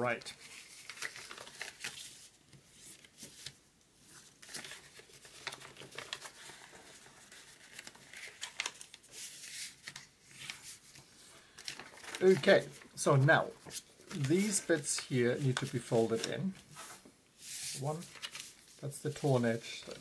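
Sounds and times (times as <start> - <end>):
paper crinkling: 0.0 - 20.0.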